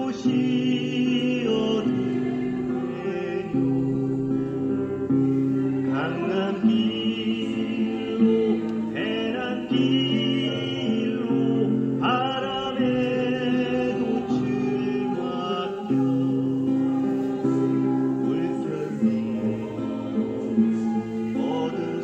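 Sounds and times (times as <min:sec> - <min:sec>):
church choir singing: 0:00.0 - 0:22.0.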